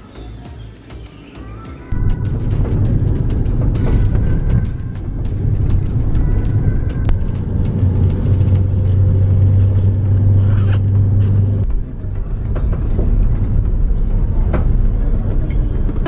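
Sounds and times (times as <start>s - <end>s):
strong low hum: 1.9s - 16.0s
vehicle engine rumble: 1.9s - 16.0s.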